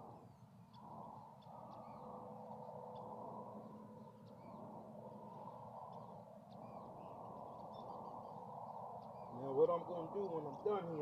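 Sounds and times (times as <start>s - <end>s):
low outdoor background rumble: 0.0s - 11.0s
small birds chirping: 0.0s - 11.0s.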